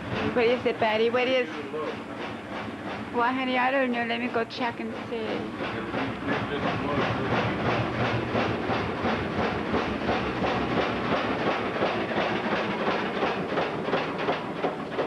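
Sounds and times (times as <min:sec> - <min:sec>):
washing machine knocking: 0:00.0 - 0:15.0.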